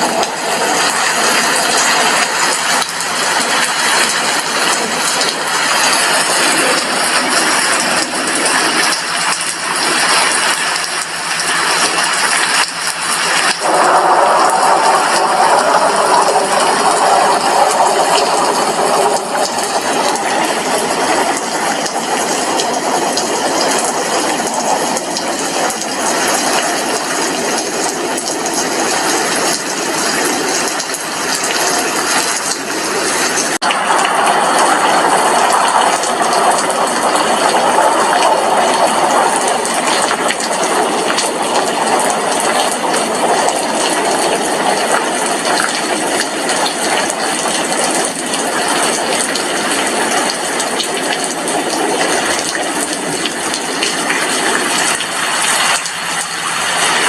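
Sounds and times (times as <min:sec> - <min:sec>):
rain on window glass: 0:00.0 - 0:57.0.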